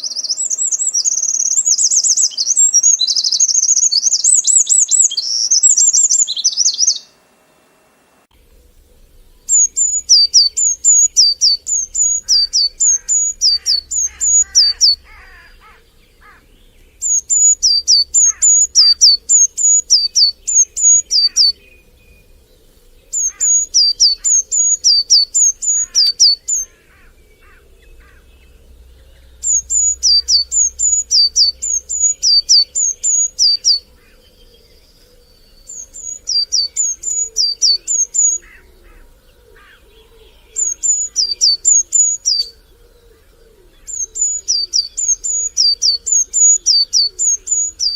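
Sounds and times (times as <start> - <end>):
songbird singing high notes: 0.0 - 7.2, 9.2 - 34.1, 35.3 - 38.7, 40.3 - 42.6, 43.8 - 47.9
faint bird chirps: 0.0 - 7.7, 8.5 - 47.9.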